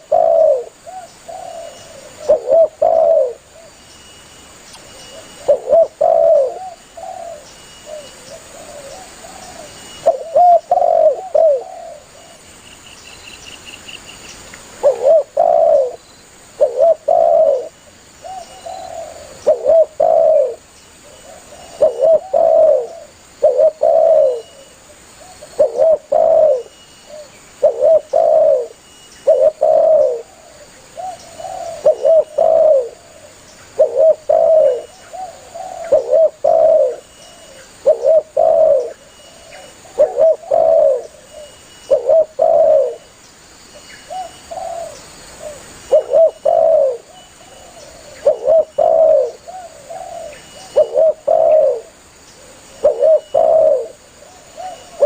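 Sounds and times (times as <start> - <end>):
dove cooing: 0.0 - 3.8, 4.9 - 12.4, 14.8 - 43.1, 44.0 - 55.0.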